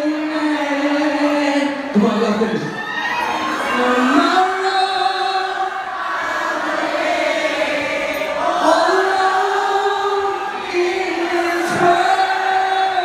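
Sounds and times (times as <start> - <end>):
crowd singing along: 0.0 - 13.0
music: 0.0 - 13.0.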